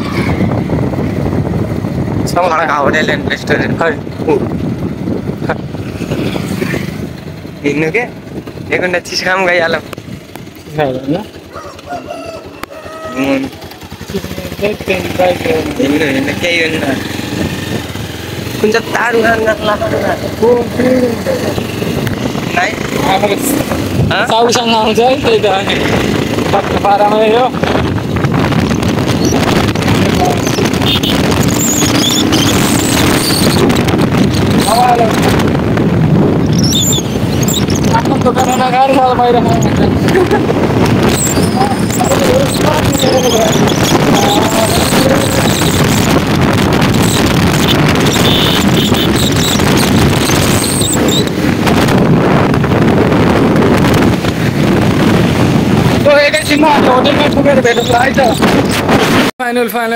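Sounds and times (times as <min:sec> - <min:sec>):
motorcycle engine rumble: 0:00.0 - 0:59.3
wind buffeting microphone: 0:00.0 - 0:59.4.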